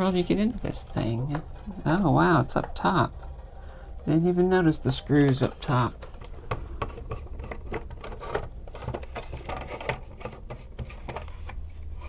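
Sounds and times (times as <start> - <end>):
metal scraping on plastic: 0.0 - 12.0.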